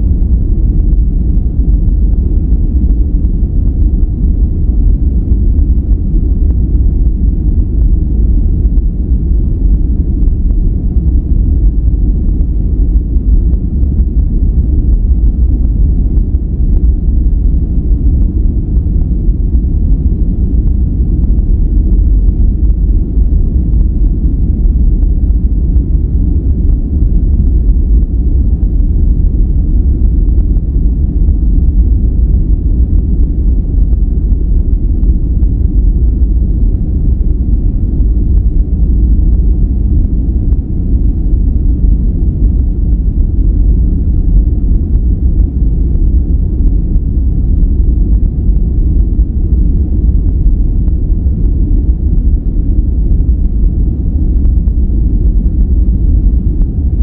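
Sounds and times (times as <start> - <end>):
deep rumbling steady noise: 0.0 - 57.0.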